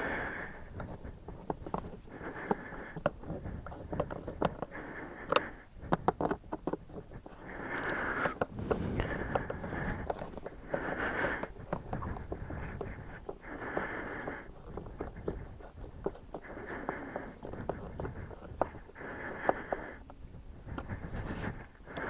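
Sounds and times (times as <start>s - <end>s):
breathing close to microphone: 0.0s - 22.0s
plastic parts clicking and knocking: 0.7s - 22.0s.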